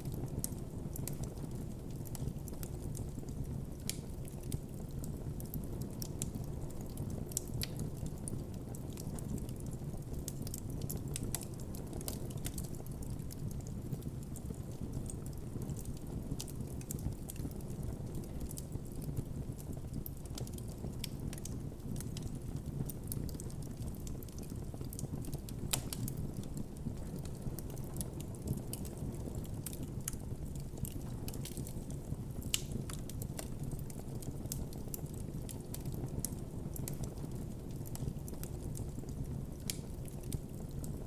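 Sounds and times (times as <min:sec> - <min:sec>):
campfire crackling and popping: 0:00.0 - 0:41.0
low rumble of flames: 0:00.0 - 0:41.0.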